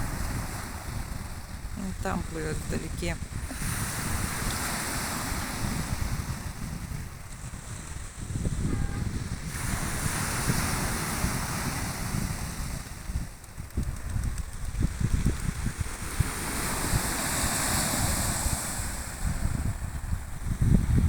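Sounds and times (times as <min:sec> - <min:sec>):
surf washing onto shore: 0:00.0 - 0:08.5, 0:09.2 - 0:21.0
wind buffeting microphone: 0:00.0 - 0:21.0.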